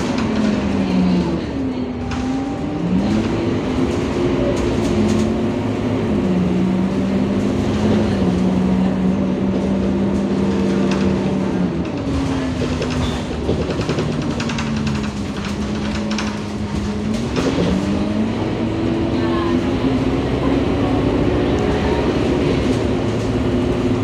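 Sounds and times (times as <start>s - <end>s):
bus engine whining: 0.0s - 24.0s
road rumble: 0.0s - 24.0s.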